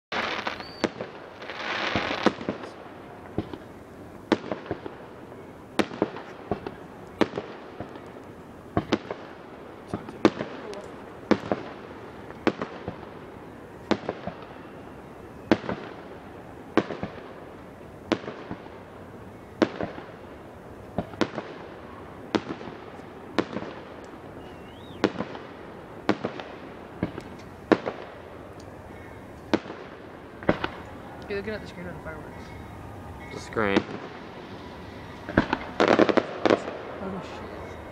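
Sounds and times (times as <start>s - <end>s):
fireworks bangs: 0.1s - 37.9s.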